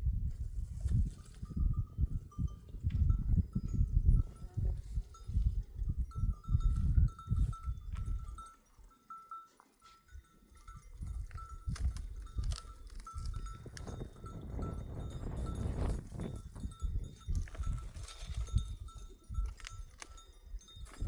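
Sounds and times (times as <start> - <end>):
goat and sheep bells clinking: 0.8 - 21.0.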